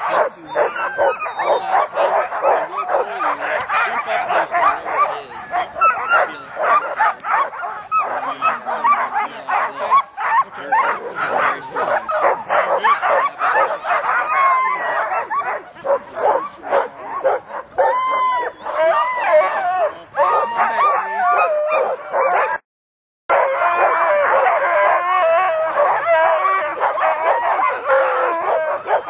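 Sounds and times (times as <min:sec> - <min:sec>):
dogs barking and yelping: 0:00.0 - 0:22.6, 0:23.3 - 0:29.0.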